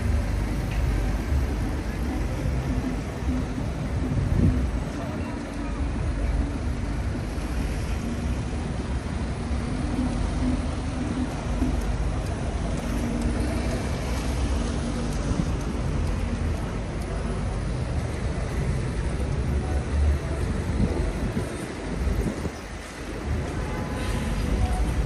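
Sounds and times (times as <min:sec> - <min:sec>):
faint engine hum: 0:00.0 - 0:25.0
traffic rumble and road noise: 0:00.0 - 0:25.0.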